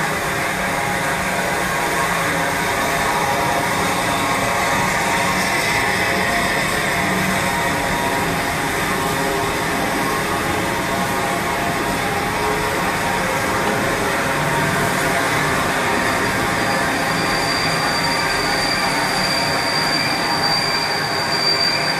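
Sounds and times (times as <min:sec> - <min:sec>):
high steady squeal: 0:00.0 - 0:21.9
steam hissing: 0:00.0 - 0:21.9
steam locomotive rolling past: 0:00.0 - 0:21.9.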